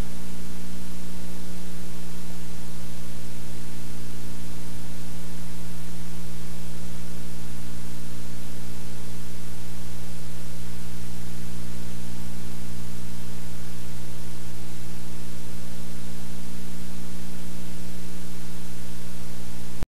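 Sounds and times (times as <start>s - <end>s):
loud electrical hum: 0.0s - 19.8s
tape hiss: 0.0s - 19.8s.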